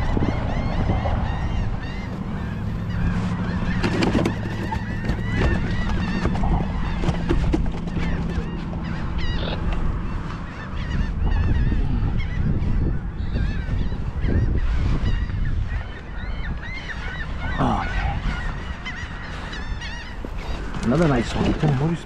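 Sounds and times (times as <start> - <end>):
flock of birds calling: 0.0 - 22.0
wind rumble on microphone: 0.0 - 22.0.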